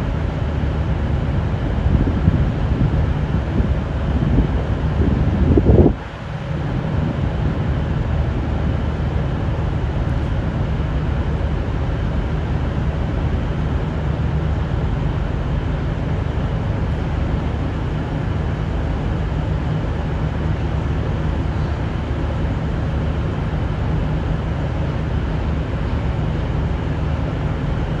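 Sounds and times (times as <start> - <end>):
train diesel engines droning: 0.0 - 28.0.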